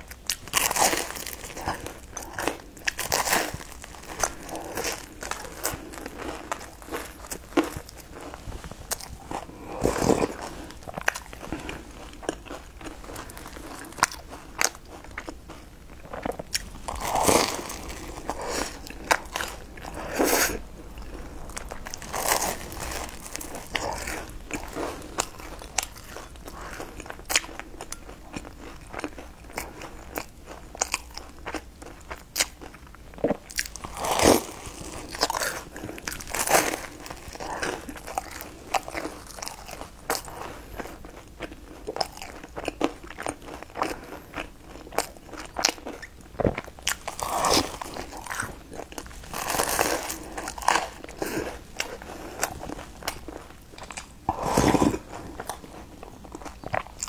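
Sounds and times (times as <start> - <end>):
person chewing crispy pastry: 0.0 - 57.0.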